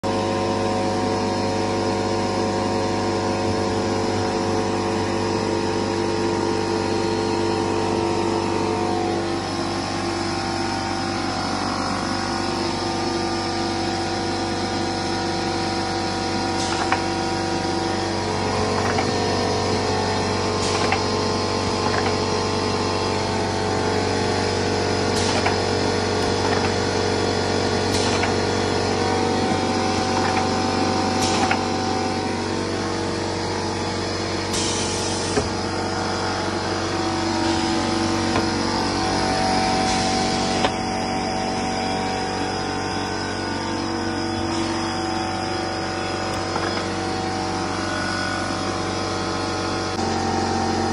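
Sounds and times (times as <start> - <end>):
cnc machine humming: 0.0 - 50.9.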